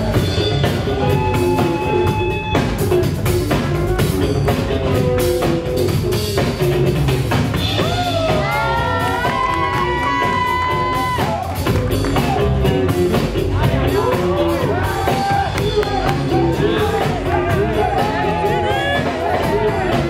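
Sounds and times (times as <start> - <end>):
live band groove: 0.0 - 20.0.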